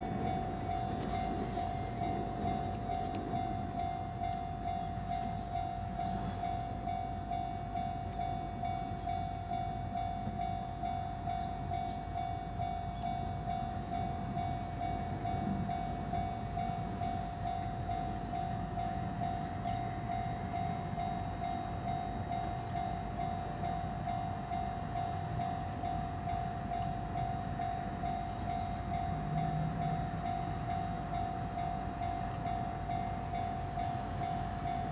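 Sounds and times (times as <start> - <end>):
level crossing warning bell: 0.0 - 34.9.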